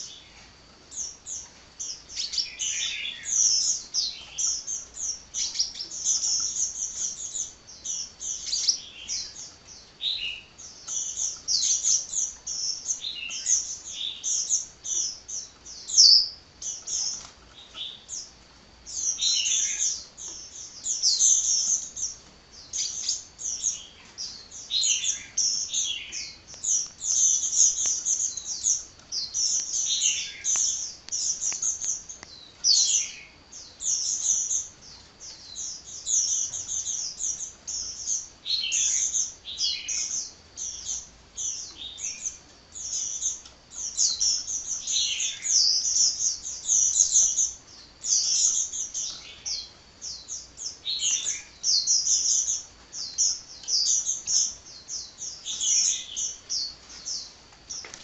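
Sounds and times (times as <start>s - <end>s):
sunbird singing: 0.0s - 58.0s.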